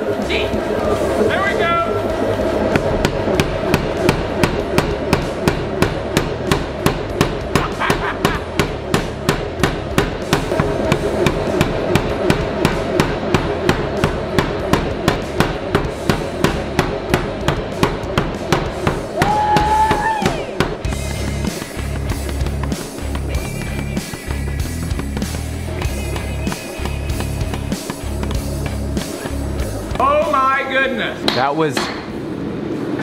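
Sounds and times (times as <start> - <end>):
power hammer blows: 2.4 - 30.4.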